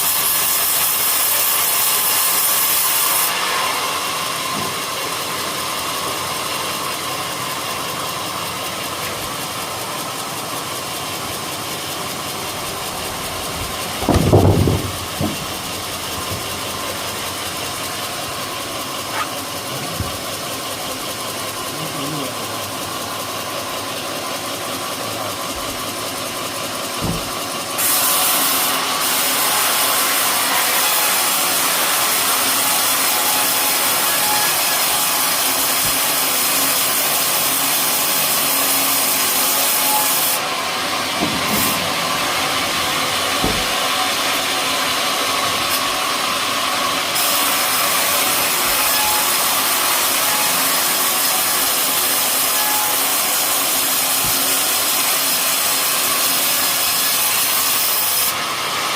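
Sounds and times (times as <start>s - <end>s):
saw blade cutting wood: 0.0s - 58.6s
mill engine running: 0.0s - 58.9s.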